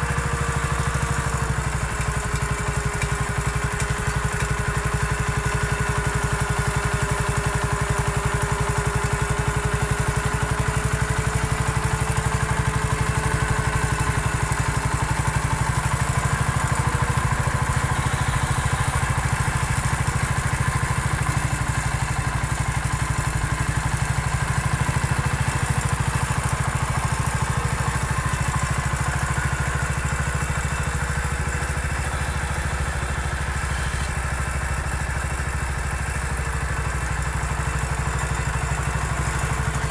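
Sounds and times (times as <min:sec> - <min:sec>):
small tractor engine running: 0:00.0 - 0:39.9.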